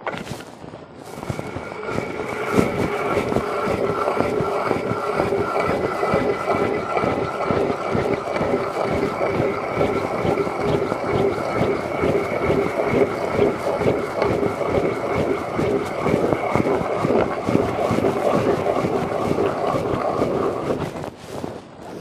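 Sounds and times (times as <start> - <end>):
ice auger grinding through ice: 1.0 - 22.0.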